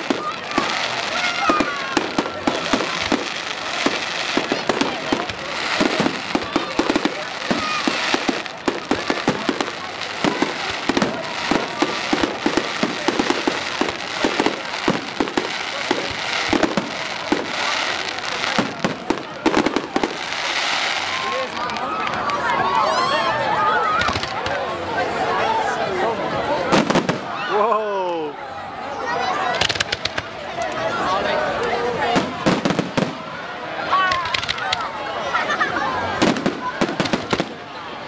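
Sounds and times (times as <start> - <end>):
fireworks crackling and banging: 0.0 - 25.2, 26.3 - 28.2, 29.1 - 38.0.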